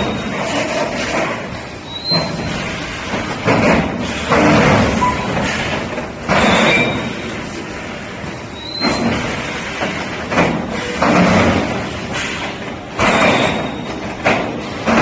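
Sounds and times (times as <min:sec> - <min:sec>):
noisy machine clunks: 0:00.0 - 0:15.0.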